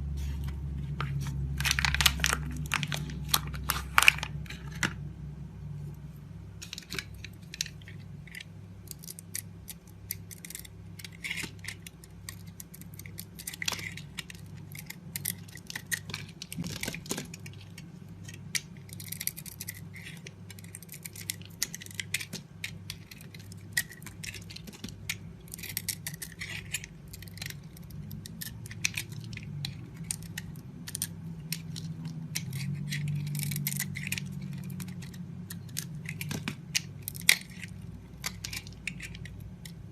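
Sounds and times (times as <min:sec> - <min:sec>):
knife scraping soap: 0:06.6 - 0:39.9.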